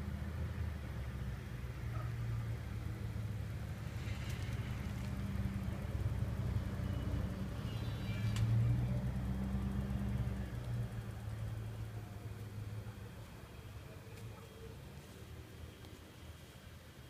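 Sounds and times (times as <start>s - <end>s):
low mechanical motor hum: 0.0s - 17.0s
faint high whine: 1.9s - 17.0s.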